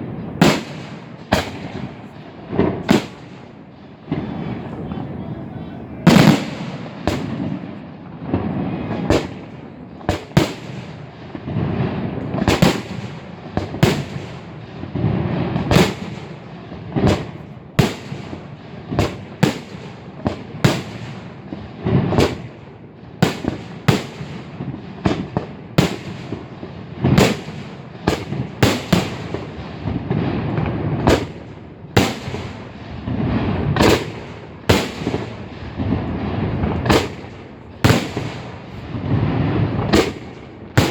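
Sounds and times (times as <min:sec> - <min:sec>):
firework bursts and bangs: 0:00.0 - 0:40.9
firework crackle: 0:00.0 - 0:40.9.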